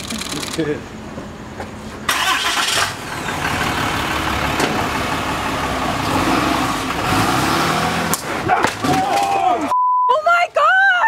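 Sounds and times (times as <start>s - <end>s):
pickup truck engine: 0.0s - 8.9s.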